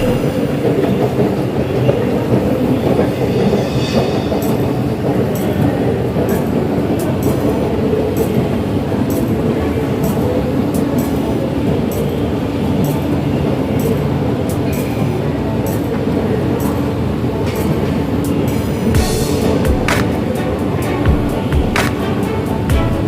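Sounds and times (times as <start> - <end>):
metro train rumbling: 0.0 - 23.0.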